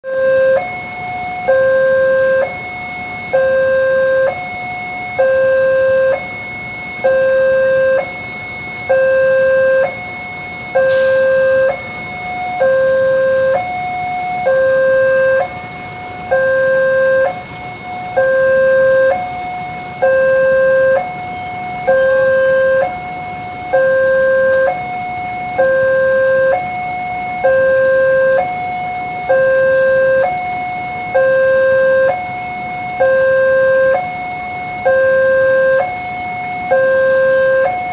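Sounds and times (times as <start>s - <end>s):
level crossing two-tone alarm: 0.0s - 37.9s.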